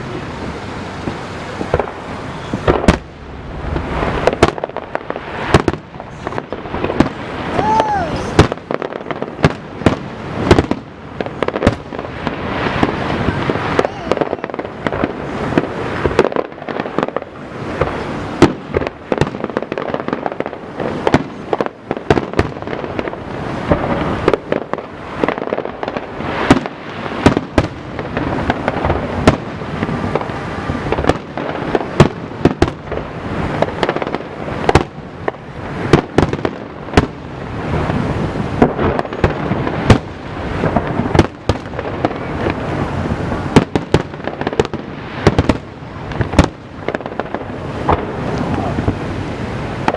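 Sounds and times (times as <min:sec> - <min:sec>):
dense rumble of fireworks: 0:00.0 - 0:49.9
fireworks bursting with sharp bangs: 0:00.0 - 0:49.9.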